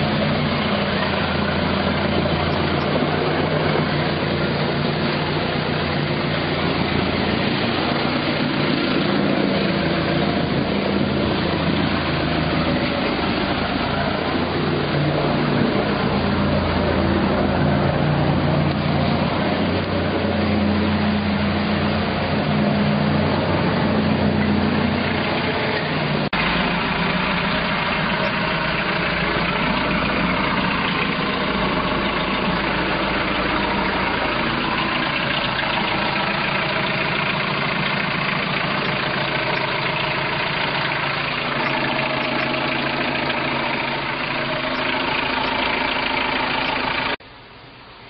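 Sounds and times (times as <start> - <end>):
boat engine idling: 0.0 - 47.4.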